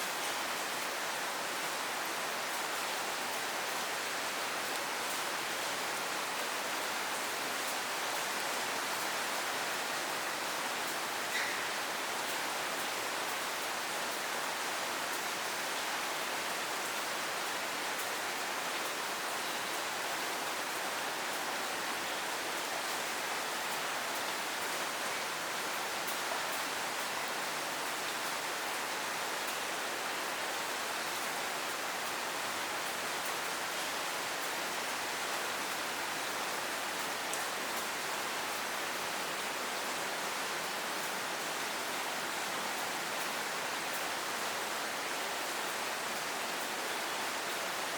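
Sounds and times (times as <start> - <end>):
steady rain hiss: 0.0 - 47.9.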